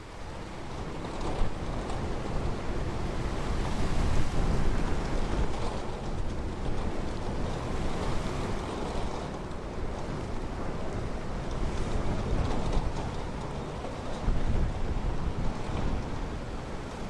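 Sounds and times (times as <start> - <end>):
ocean surf on a beach: 0.0 - 17.0.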